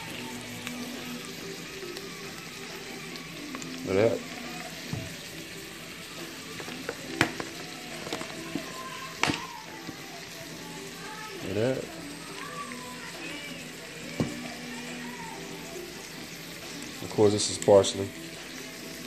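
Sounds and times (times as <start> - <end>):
potatoes sizzling in a pot: 0.0 - 19.0.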